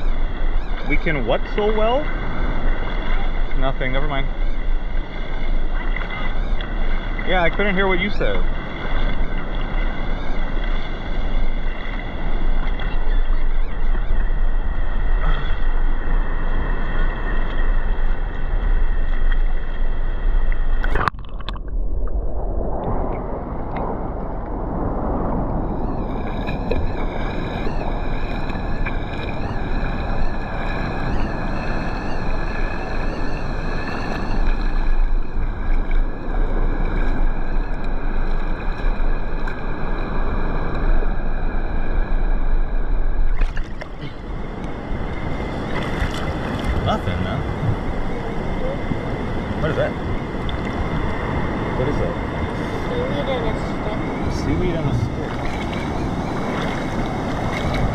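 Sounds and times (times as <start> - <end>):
ocean surf: 0.0 - 57.9
wind buffeting microphone: 0.0 - 57.9.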